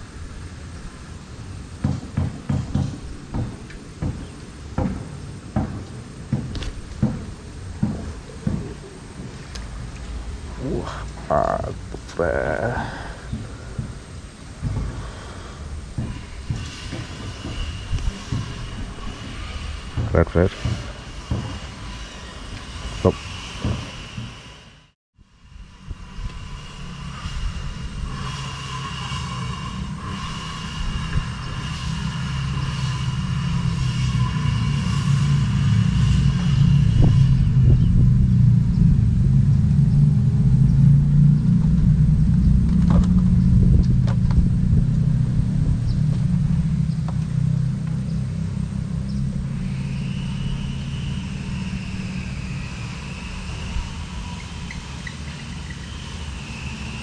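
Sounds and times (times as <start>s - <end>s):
engine rumble passing by: 0.0s - 57.0s.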